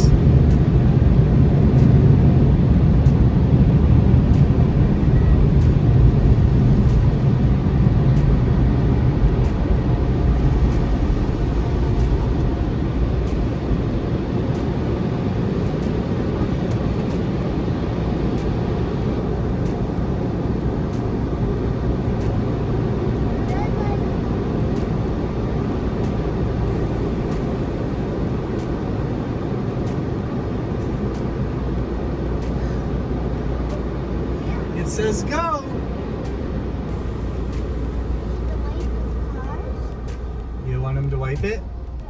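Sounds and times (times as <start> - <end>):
car wash air blowers: 0.0 - 42.0.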